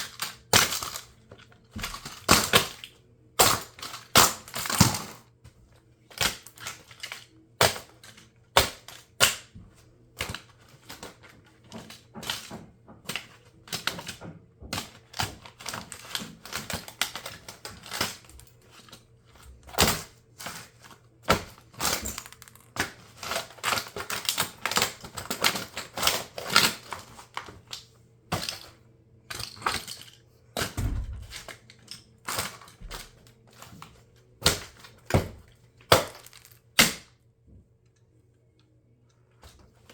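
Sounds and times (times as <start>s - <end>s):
plastic toy cracking under heels: 0.0s - 5.2s, 6.1s - 9.6s, 10.2s - 37.1s.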